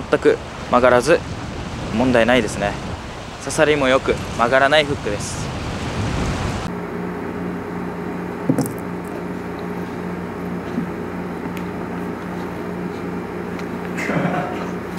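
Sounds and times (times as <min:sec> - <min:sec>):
low ventilation hum: 0:00.0 - 0:14.9.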